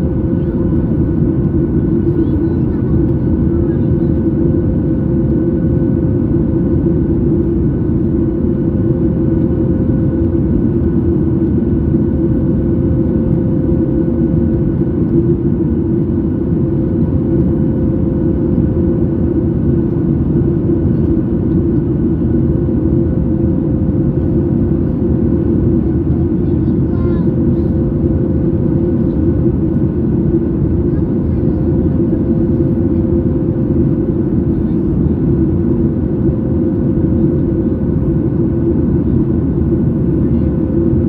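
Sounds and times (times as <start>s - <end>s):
airplane cabin engine rumble: 0.0s - 41.0s.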